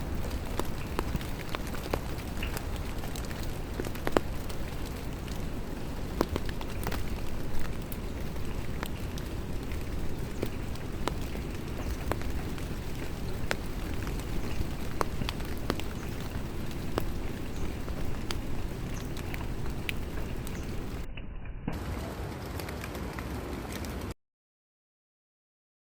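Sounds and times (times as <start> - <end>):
rain falling: 0.0 - 21.1, 21.7 - 24.2
raindrops ticking: 0.0 - 21.1.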